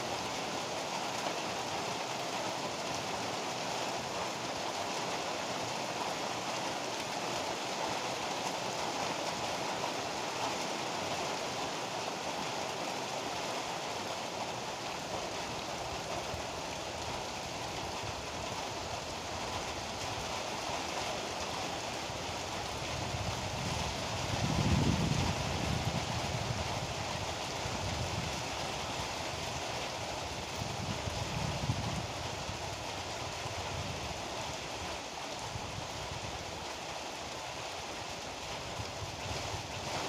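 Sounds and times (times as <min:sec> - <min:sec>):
heavy rain pouring: 0:00.0 - 0:40.0.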